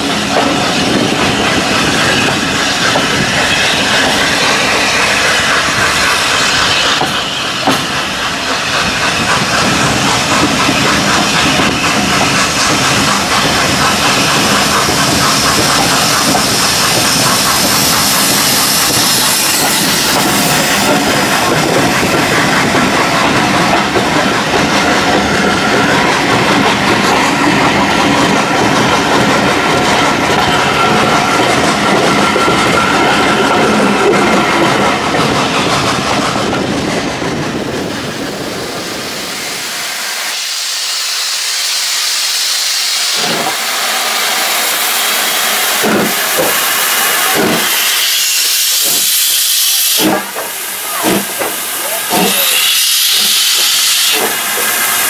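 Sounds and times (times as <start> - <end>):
steam hissing: 0.0 - 55.0
steam train passing: 0.0 - 55.0.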